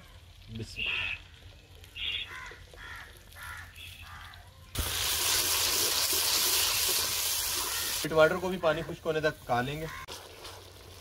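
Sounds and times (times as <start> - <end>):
tomato sizzling in hot oil: 0.0 - 11.0.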